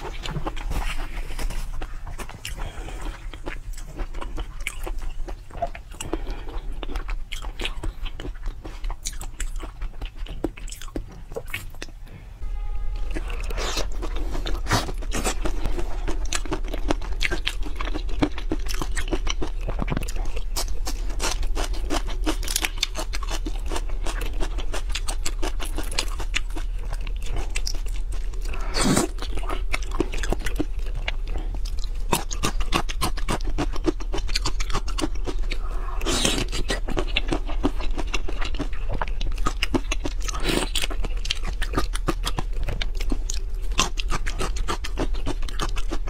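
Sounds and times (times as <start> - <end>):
wet chewing and sucking: 0.0 - 12.0, 13.2 - 46.0.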